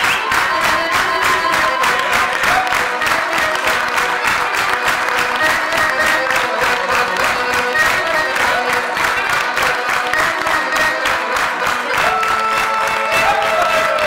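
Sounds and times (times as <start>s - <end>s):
audience applauding: 0.0s - 14.0s
lively folk dance music: 0.0s - 14.0s.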